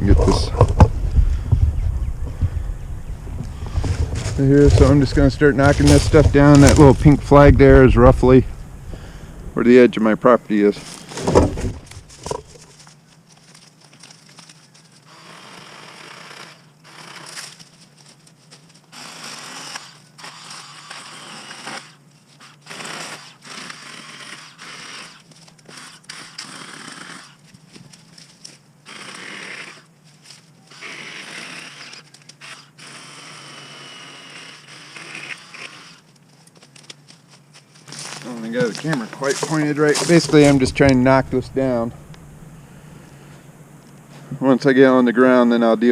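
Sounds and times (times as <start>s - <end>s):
chainsaw cutting brush: 3.5s - 9.2s, 10.8s - 43.5s.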